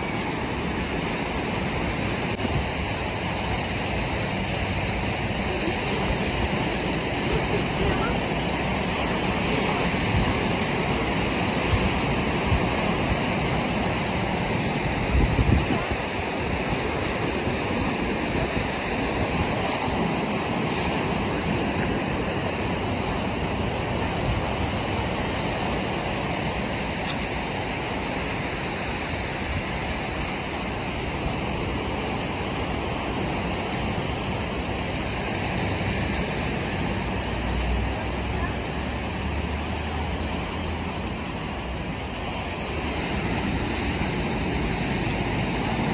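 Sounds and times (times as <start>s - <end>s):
ocean surf breaking: 0.0s - 45.9s
wind on microphone: 0.0s - 45.9s.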